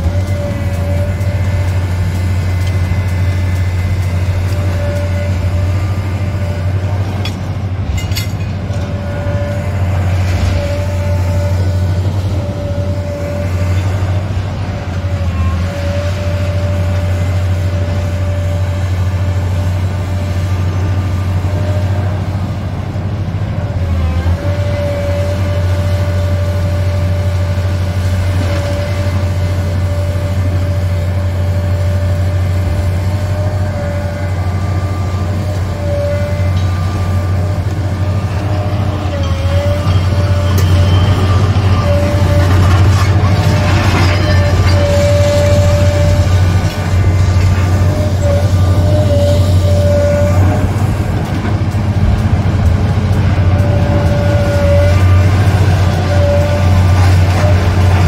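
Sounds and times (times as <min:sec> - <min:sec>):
constant whine: 0:00.0 - 0:58.0
deep engine drone: 0:00.0 - 0:58.0.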